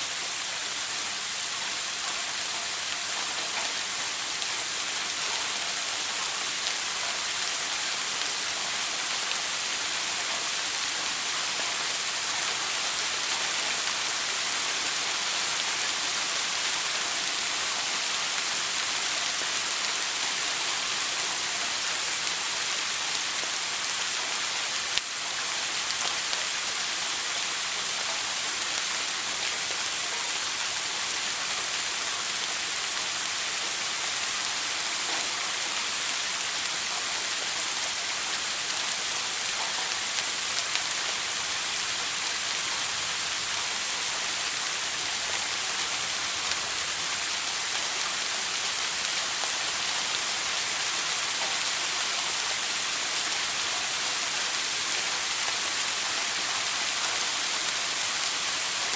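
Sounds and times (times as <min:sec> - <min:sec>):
shower water spraying: 0:00.0 - 0:58.9.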